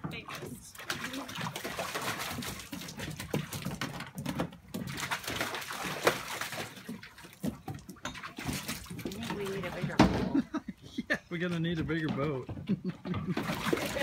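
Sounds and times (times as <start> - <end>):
dogs splashing in pool water: 0.0 - 10.6, 11.5 - 14.0.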